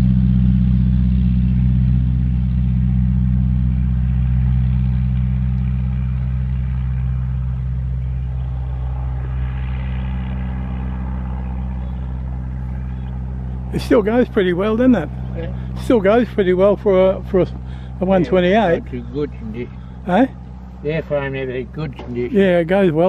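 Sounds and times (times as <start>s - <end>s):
biplane engine in flight: 0.0s - 23.0s.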